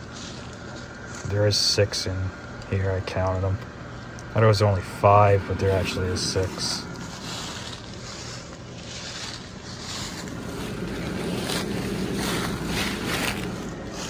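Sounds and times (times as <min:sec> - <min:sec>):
blower fan humming: 0:00.0 - 0:14.0.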